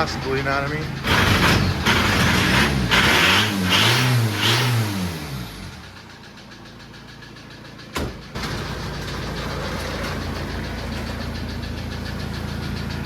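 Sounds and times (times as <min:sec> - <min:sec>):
engine knocking: 0:00.0 - 0:04.6, 0:05.5 - 0:13.0
diesel engine revving: 0:00.0 - 0:13.0.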